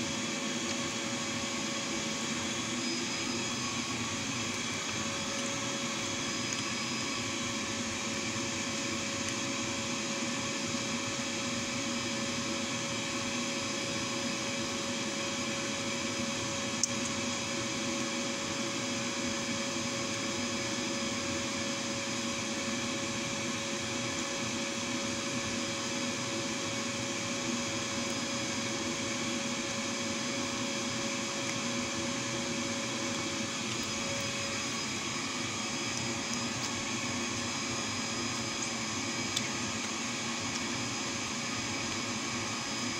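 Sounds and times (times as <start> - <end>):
machine hum and hiss: 0.0 - 42.9.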